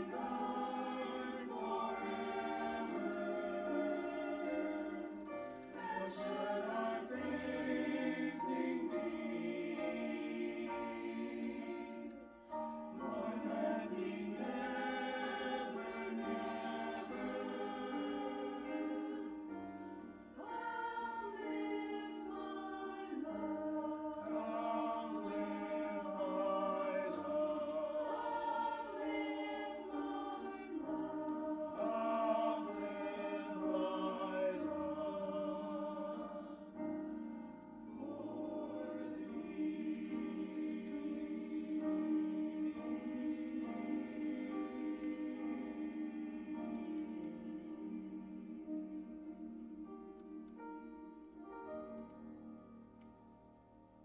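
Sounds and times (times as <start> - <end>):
choir singing sustained chords: 0.0 - 54.0.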